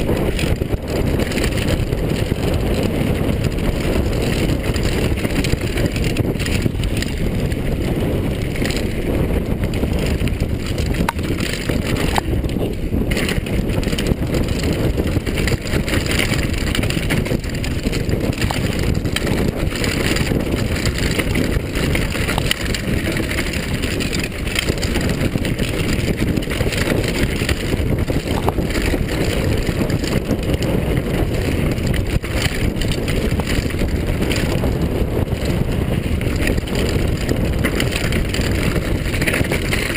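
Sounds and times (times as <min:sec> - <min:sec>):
bike rattling: 0:00.0 - 0:39.9
tyres rumbling on dirt: 0:00.0 - 0:39.9
wind buffeting microphone: 0:00.0 - 0:39.9.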